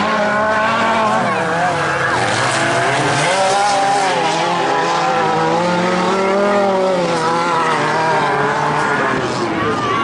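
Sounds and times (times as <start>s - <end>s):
stock car engines revving: 0.0s - 10.0s.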